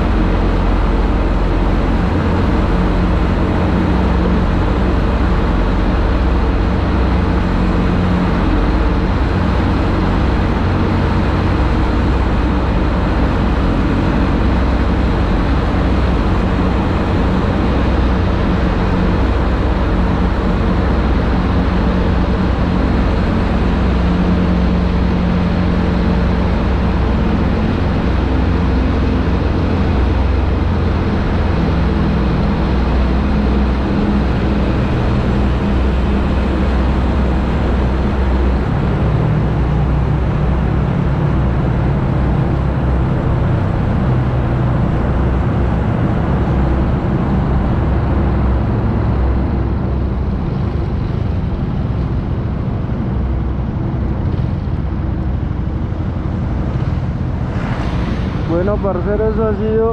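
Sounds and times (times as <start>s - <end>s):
road noise: 0.0s - 59.9s
wind noise: 0.0s - 59.9s.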